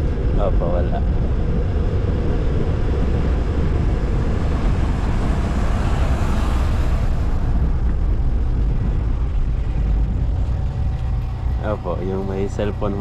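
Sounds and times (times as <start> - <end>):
passing traffic: 0.0 - 13.0
wind rumble on microphone: 0.0 - 13.0.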